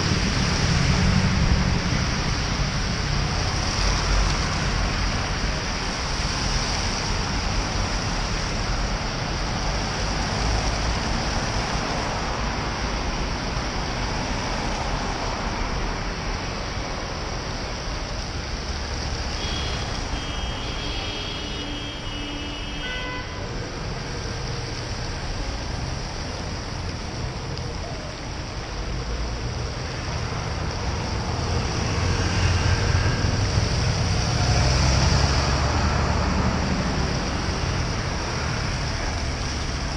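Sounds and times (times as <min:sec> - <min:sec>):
tyre hiss on wet road: 0:00.0 - 0:39.9.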